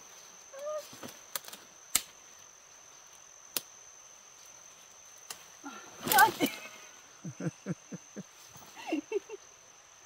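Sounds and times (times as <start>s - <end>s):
high-pitched insect chirring: 0.0s - 10.0s.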